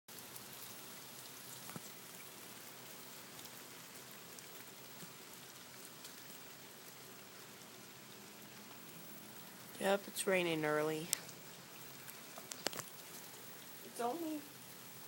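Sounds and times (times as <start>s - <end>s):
steady rain hiss: 0.1s - 15.0s
raindrops ticking: 1.2s - 15.0s.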